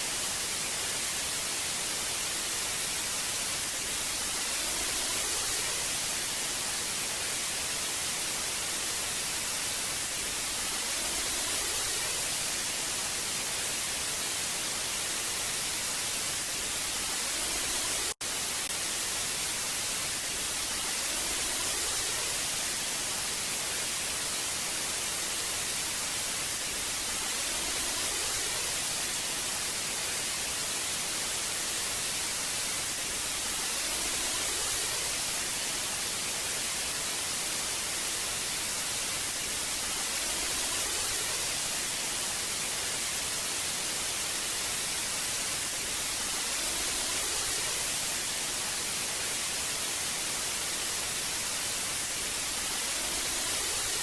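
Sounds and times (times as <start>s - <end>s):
tv static hiss: 0.0s - 54.0s.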